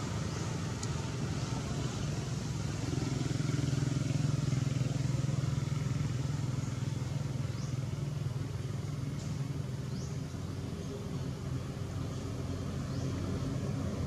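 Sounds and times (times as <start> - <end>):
steady low engine hum: 0.0 - 14.0.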